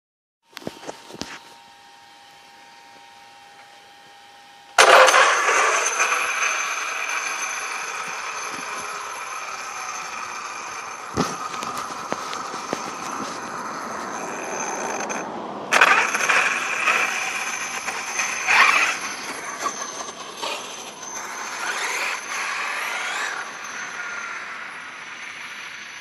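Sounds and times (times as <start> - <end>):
electric motor whining: 4.7 - 26.0.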